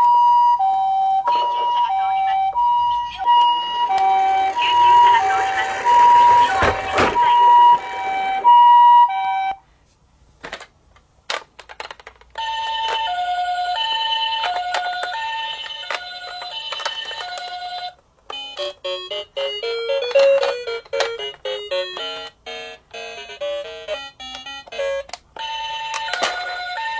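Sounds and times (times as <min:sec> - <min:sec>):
toy ambulance siren: 0:00.0 - 0:09.6, 0:12.4 - 0:26.9.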